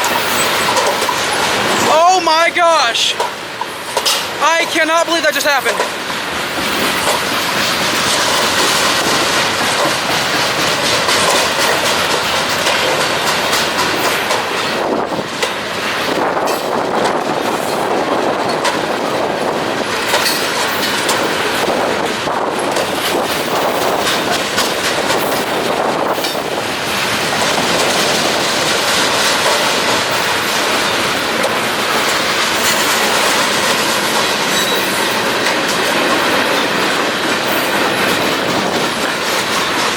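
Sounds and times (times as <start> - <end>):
train wheels clattering over rail joints: 0.0 - 1.9, 3.1 - 39.9.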